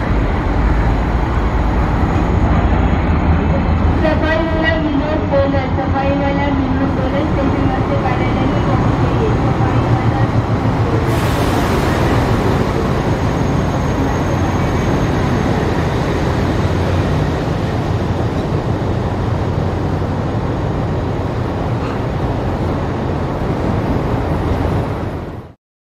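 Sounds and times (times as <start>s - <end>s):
train wheels rumbling on rails: 0.0s - 25.6s.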